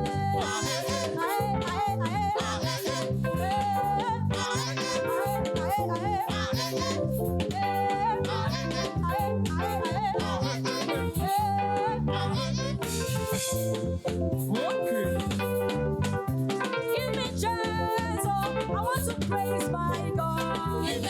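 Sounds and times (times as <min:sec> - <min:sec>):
live band playing upbeat music: 0:00.0 - 0:21.0
walking bass line: 0:00.0 - 0:21.0.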